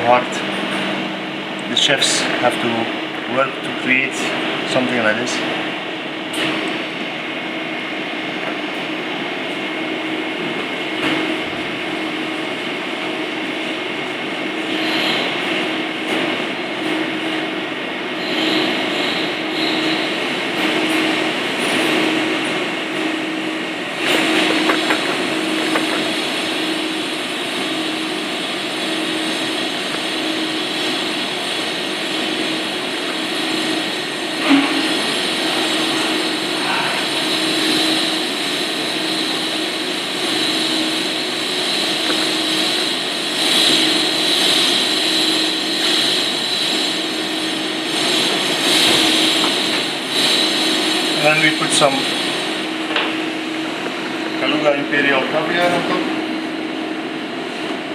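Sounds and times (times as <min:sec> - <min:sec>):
pulsing mechanical hum: 0:00.0 - 0:57.9.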